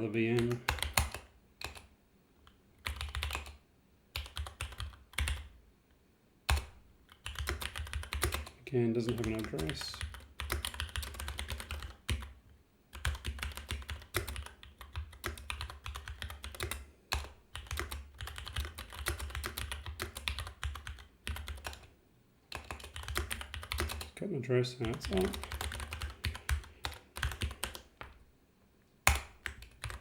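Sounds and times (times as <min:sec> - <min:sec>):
computer keyboard typing: 0:00.3 - 0:03.6, 0:04.2 - 0:05.5, 0:06.5 - 0:21.9, 0:22.5 - 0:24.1, 0:24.8 - 0:28.2, 0:29.0 - 0:30.0.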